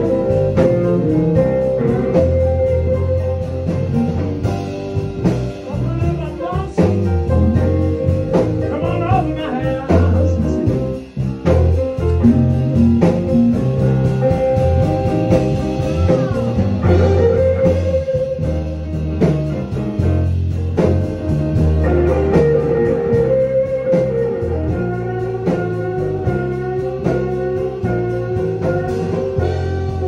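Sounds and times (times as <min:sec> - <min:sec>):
bass line: 0:00.0 - 0:30.0
blues guitar bending notes: 0:00.0 - 0:30.0
slow steady beat: 0:00.0 - 0:30.0.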